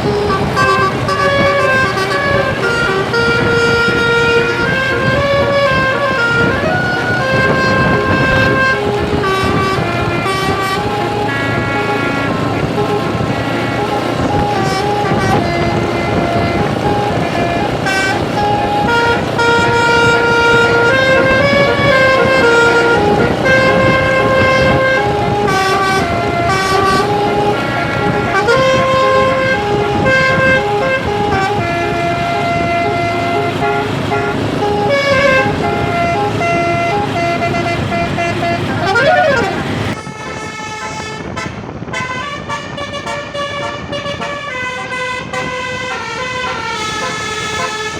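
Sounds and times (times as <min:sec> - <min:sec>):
siren-like wail: 0:00.0 - 0:37.3, 0:38.5 - 0:40.8
engine running: 0:00.0 - 0:41.9, 0:43.1 - 0:47.9
musical bus horn tune: 0:00.0 - 0:47.9.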